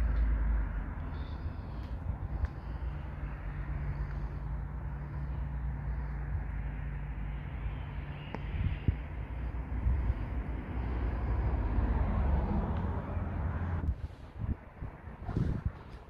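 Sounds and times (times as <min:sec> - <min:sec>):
constant low hum: 0:00.0 - 0:16.0
road traffic rumble: 0:00.0 - 0:16.0.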